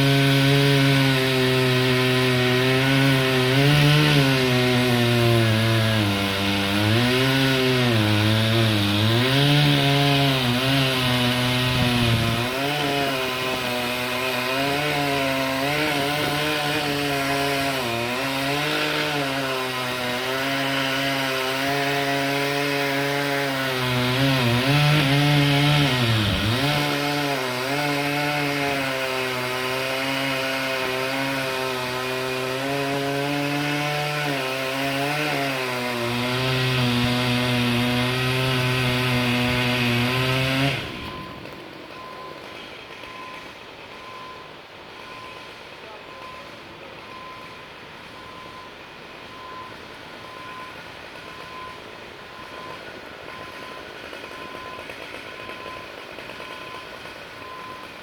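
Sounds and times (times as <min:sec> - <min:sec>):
chainsaw cutting wood: 0:00.0 - 0:44.3, 0:44.9 - 0:58.0.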